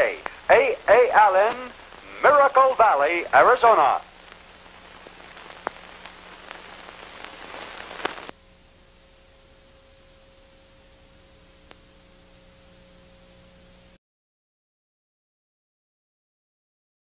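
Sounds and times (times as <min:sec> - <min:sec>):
analog recording hiss: 0:00.0 - 0:14.0
faint steady hum: 0:00.0 - 0:14.0
scattered crackles: 0:00.0 - 0:14.0.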